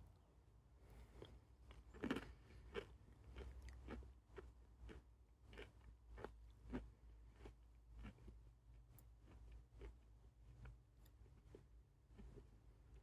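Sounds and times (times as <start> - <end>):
faint crunchy chewing: 0.0 - 13.0.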